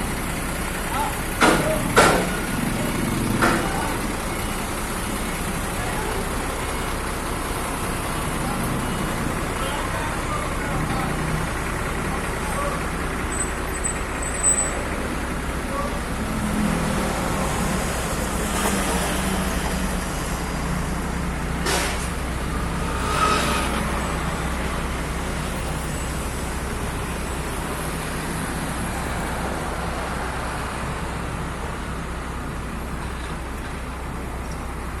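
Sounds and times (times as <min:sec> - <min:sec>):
tamping rammer engine running: 0:00.0 - 0:35.0.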